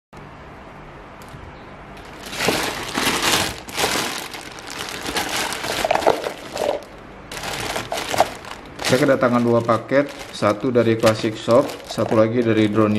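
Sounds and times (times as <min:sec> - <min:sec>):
plastic bags crinkling and rustling: 0:02.0 - 0:12.9.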